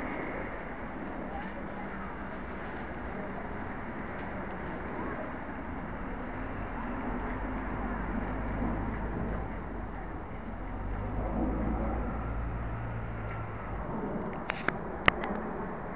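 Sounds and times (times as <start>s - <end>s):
city traffic rumble: 0.0s - 15.9s
low engine drone: 0.0s - 15.9s.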